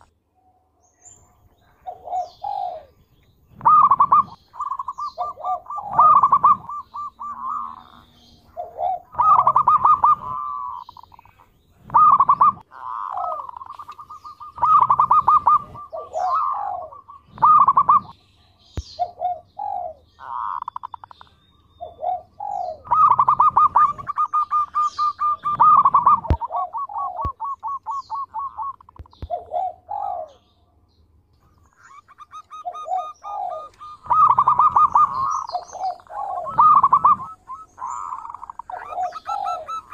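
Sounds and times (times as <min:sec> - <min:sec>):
dove cooing: 0:01.5 - 0:30.5, 0:31.4 - 0:39.9.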